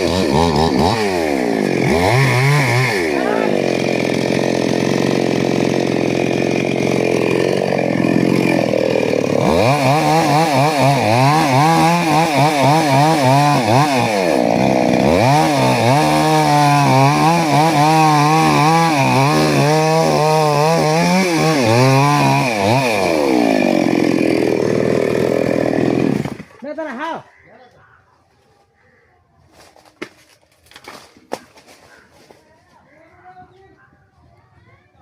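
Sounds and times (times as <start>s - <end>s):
chainsaw cutting wood: 0.0s - 26.7s, 29.8s - 32.1s.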